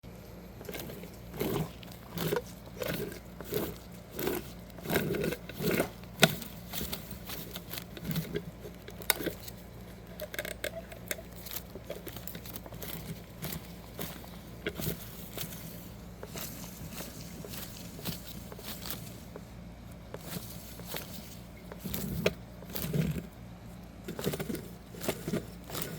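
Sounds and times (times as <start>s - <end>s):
faint steady hum: 0.0s - 25.9s
alternator scraping rattle: 0.6s - 25.9s.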